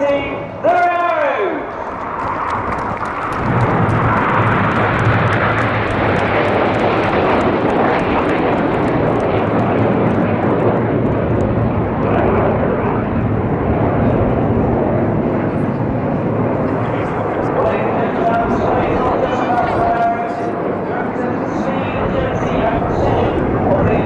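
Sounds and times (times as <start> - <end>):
jets flying over roaring: 0.0 - 24.0.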